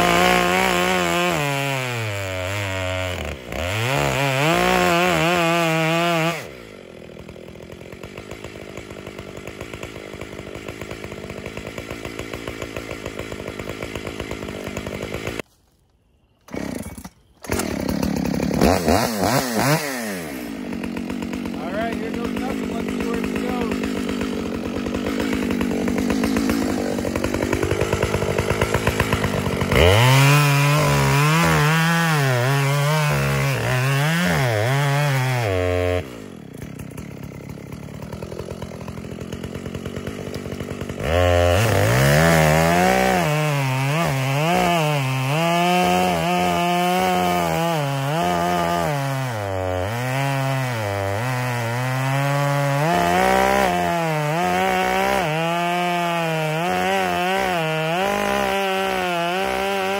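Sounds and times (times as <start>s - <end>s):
chainsaw idling: 0.0s - 15.4s, 16.5s - 59.9s
chainsaw revving and cutting wood: 0.0s - 15.5s, 16.4s - 59.9s.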